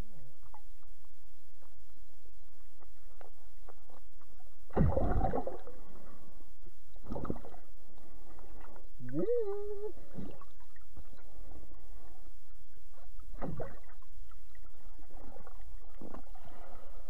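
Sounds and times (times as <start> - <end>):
low underwater rumble: 0.0 - 17.0
muffled bursts of water movement: 0.0 - 17.0.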